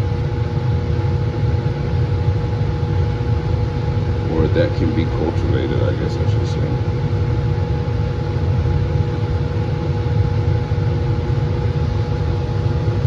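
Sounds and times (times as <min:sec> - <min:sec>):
blower fan roaring: 0:00.0 - 0:13.0
faint constant hum: 0:00.0 - 0:13.0.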